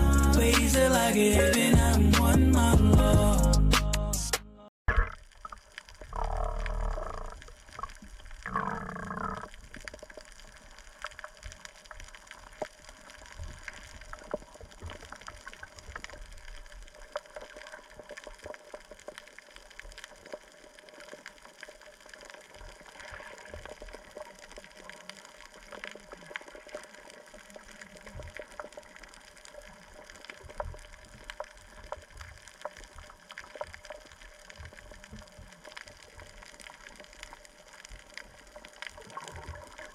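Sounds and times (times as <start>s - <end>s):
muffled underwater wash: 4.9s - 39.9s
faint crackling clicks: 5.0s - 39.9s.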